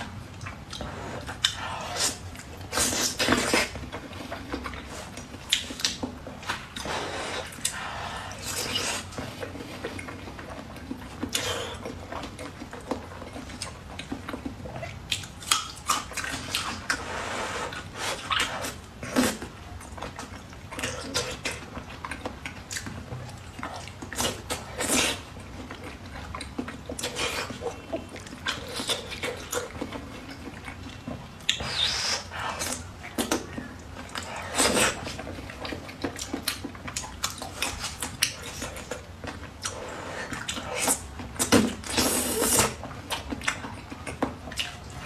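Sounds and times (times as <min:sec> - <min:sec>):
chewing with wet smacks: 0:00.0 - 0:45.0.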